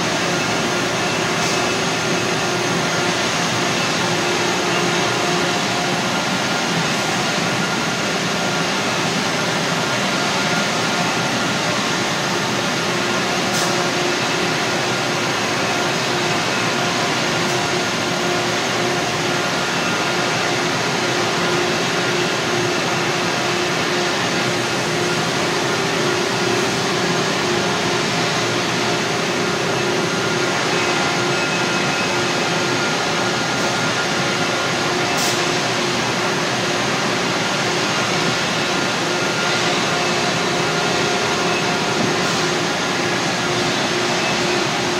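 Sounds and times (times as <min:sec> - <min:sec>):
machinery droning: 0:00.0 - 0:44.9.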